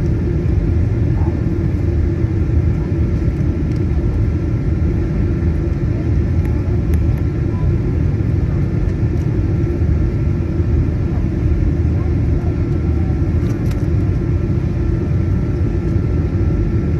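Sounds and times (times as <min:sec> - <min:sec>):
airplane cabin engine rumble: 0:00.0 - 0:16.9
faint steady whine: 0:00.0 - 0:16.9.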